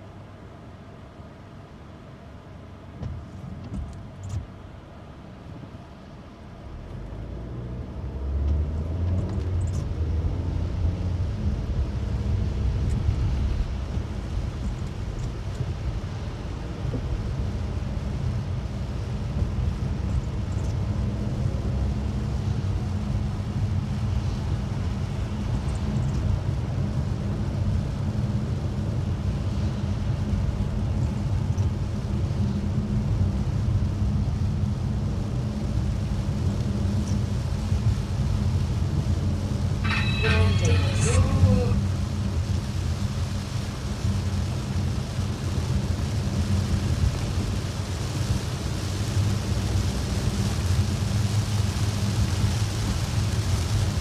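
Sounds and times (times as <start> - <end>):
car rumble and tyre noise: 0.0 - 54.0
rain and spray hiss: 2.8 - 54.0.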